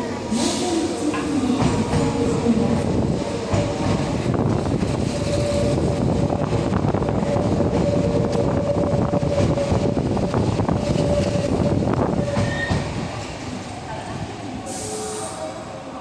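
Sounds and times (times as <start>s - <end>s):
train wheels rumbling: 0.0s - 15.7s.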